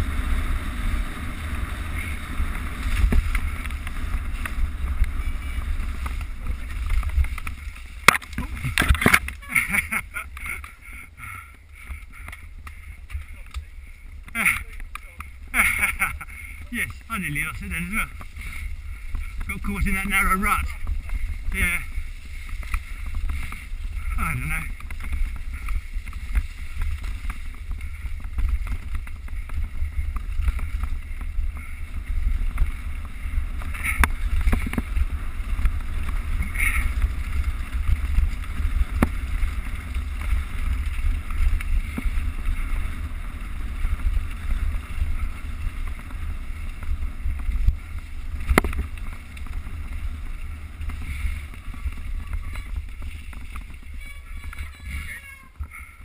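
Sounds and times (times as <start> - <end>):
bike tyre noise on trail: 0.0 - 56.0
bike knocking over bumps: 0.3 - 16.3, 17.8 - 54.8.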